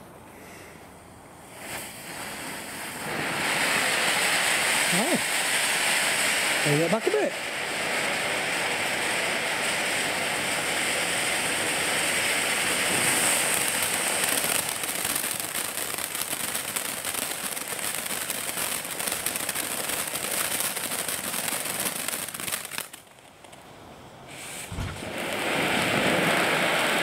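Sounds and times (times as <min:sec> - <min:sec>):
firework crackling: 0:00.0 - 0:27.0
firework fountain hissing: 0:00.0 - 0:27.0.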